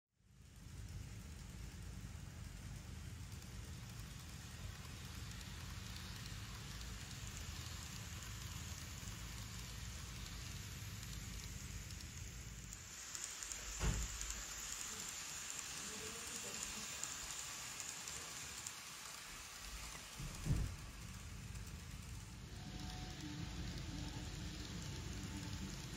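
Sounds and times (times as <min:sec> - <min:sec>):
model train running on track: 0:00.3 - 0:25.9.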